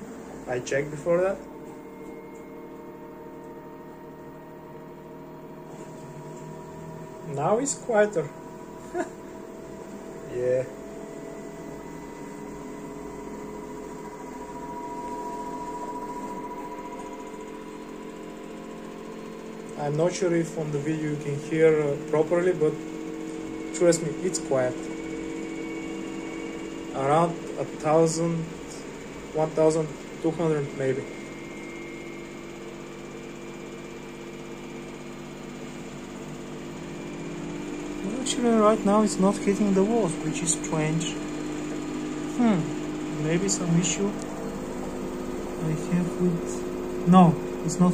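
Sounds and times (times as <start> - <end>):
washer drum spinning hum: 0.0 - 47.9.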